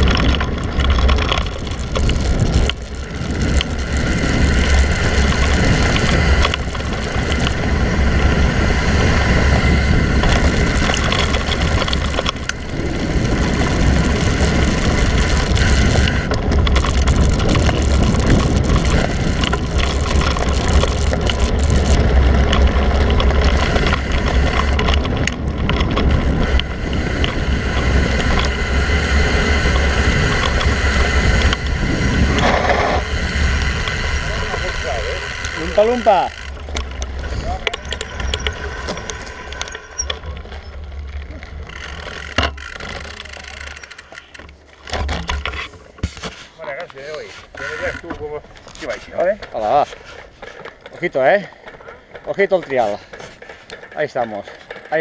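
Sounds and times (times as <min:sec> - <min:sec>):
wind rumbling on microphone: 0:00.0 - 0:46.4
bike rattling over bumps: 0:00.0 - 0:55.0
tyres crunching over dirt: 0:00.0 - 0:55.0
steady high buzz: 0:01.7 - 0:46.3.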